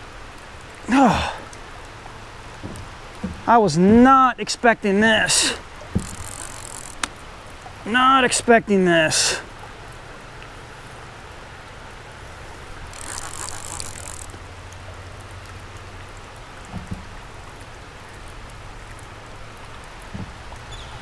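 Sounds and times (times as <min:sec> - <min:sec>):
rain falling on water: 0:00.0 - 0:21.0.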